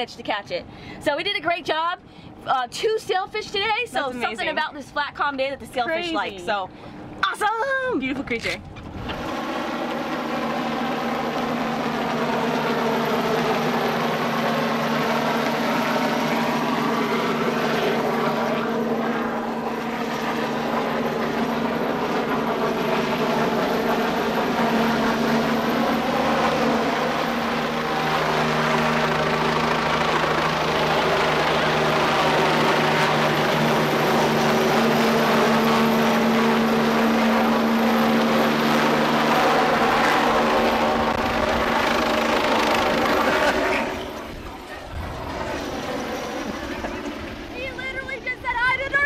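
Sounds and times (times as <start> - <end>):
helicopter rotor and engine: 0.0 - 49.0.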